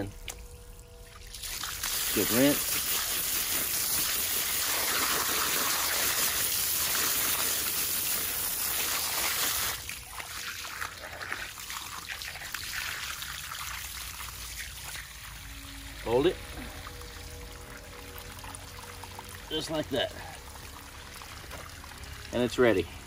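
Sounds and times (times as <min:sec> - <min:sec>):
water trickling and splashing: 0:00.0 - 0:23.0
hose spraying water: 0:01.3 - 0:23.0.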